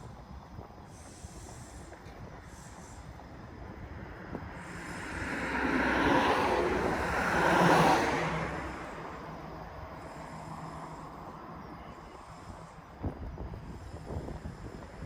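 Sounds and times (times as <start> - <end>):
car tyre and road noise: 0.0 - 15.0.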